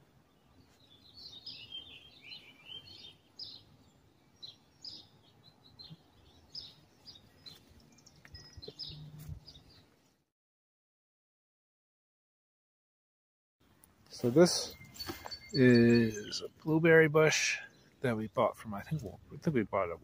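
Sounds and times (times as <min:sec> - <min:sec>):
small birds chirping: 0:00.0 - 0:10.3, 0:13.6 - 0:20.0.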